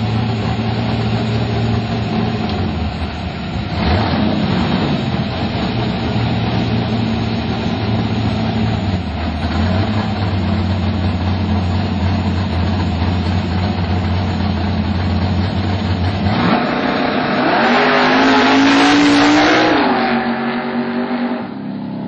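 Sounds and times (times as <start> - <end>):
drag car engine revving: 0.0 - 21.9.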